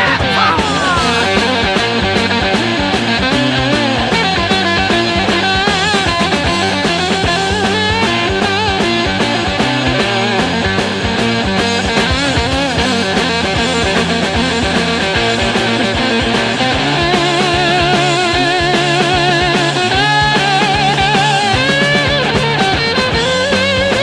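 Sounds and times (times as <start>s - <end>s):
bass guitar: 0.0s - 24.0s
electric guitar lead with vibrato: 0.0s - 24.0s
steady drum beat: 0.0s - 24.0s.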